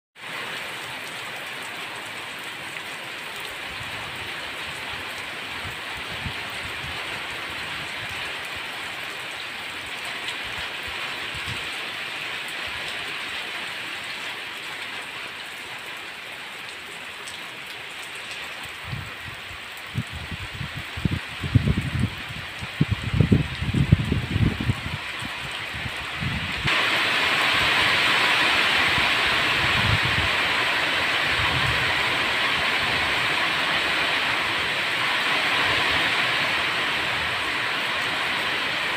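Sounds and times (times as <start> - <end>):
rain on foliage: 0.2 - 38.9.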